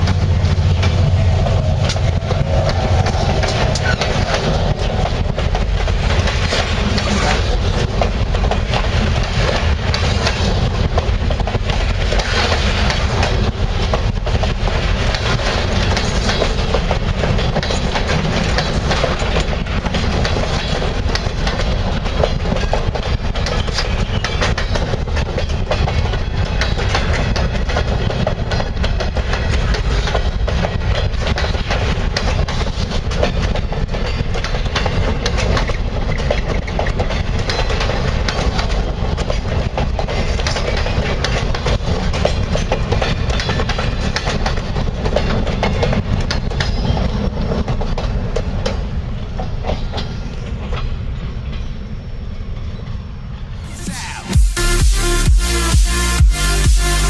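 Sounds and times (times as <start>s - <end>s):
train wheels clicking over rail joints: 0.0s - 52.9s
freight train rumble: 0.0s - 57.0s.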